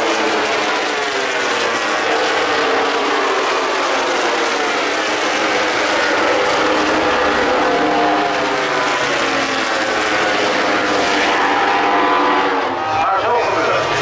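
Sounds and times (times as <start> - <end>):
racing motorcycle engines high revs: 0.0 - 14.0.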